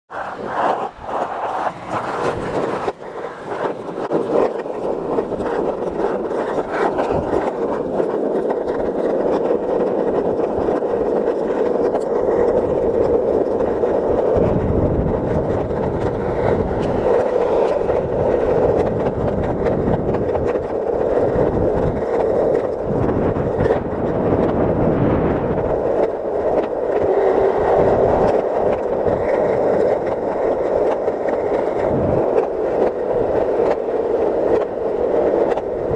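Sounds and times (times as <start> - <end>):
skateboard wheels rolling on asphalt: 0.1 - 35.9.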